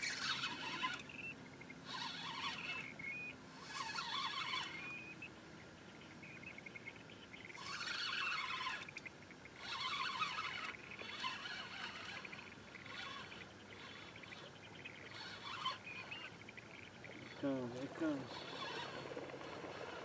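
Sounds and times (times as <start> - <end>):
fishing reel clicking and buzzing: 0.0 - 5.1, 7.5 - 20.0
fishing reel whirring: 0.0 - 5.4, 6.0 - 20.0.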